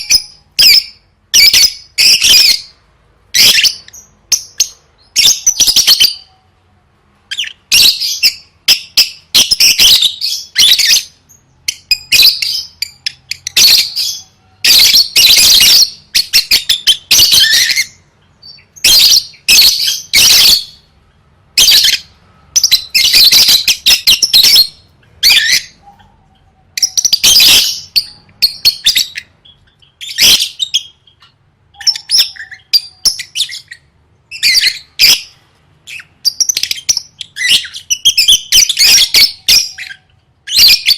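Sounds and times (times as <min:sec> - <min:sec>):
lovebird chattering: 0:07.3 - 0:21.0, 0:21.6 - 0:40.9.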